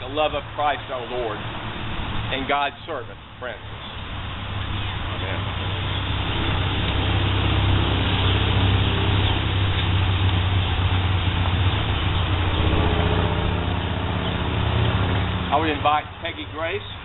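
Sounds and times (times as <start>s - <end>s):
vehicle engine running: 3.0s - 17.0s.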